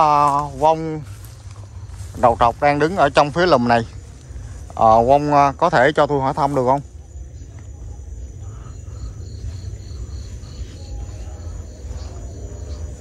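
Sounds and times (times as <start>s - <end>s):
faint high insect trill: 0.0s - 13.0s
insect pulsed chirping: 0.0s - 13.0s
steady low rumble: 0.0s - 13.0s.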